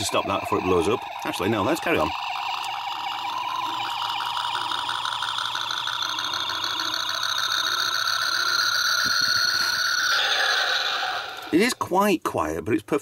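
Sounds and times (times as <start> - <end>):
pulsing electronic whine from toy: 0.0 - 11.8.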